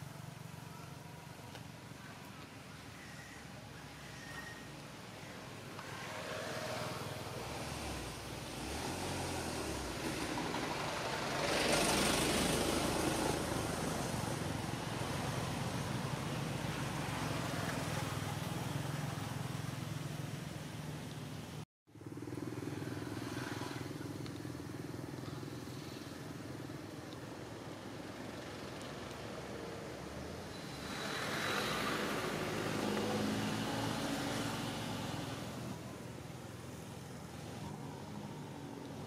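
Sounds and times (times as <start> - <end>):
vehicle engine hum: 5.7 - 39.0.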